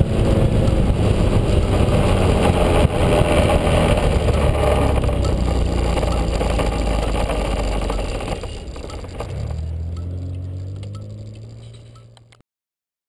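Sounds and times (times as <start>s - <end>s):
scooter engine: 0.0s - 12.4s
wind and road noise: 0.0s - 12.4s.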